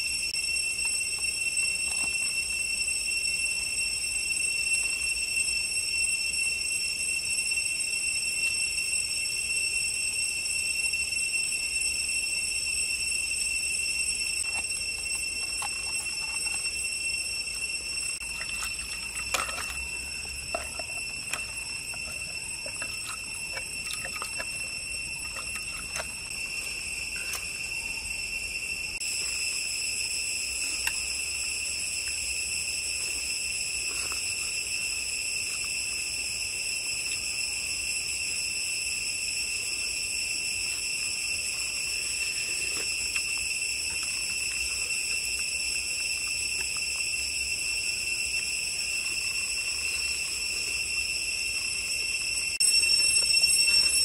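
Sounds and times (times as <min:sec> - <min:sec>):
forest insects trilling: 0:00.0 - 0:54.0.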